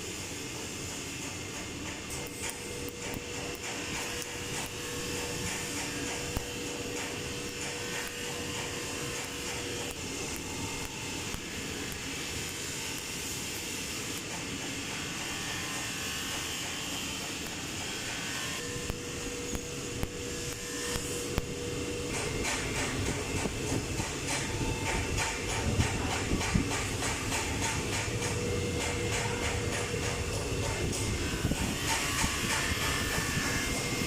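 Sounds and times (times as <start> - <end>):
steady hum: 0.0 - 34.0
welding hiss and crackling: 0.0 - 34.0.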